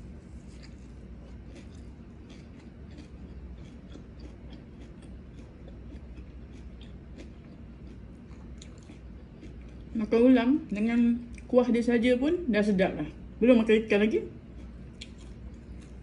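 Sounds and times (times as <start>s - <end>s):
chewing crisp leafy greens: 0.0s - 11.5s, 14.3s - 16.0s.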